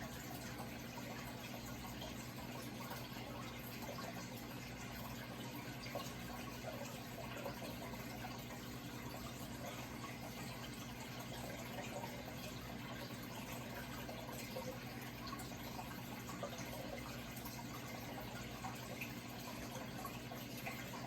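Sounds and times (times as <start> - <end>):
low steady hum: 0.0 - 21.0
running water trickling: 0.0 - 21.0
water drips: 0.0 - 21.0.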